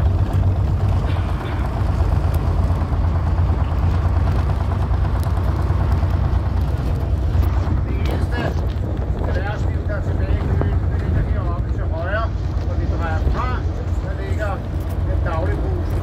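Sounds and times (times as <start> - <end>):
bus engine droning: 0.0 - 16.0
road noise: 0.0 - 16.0.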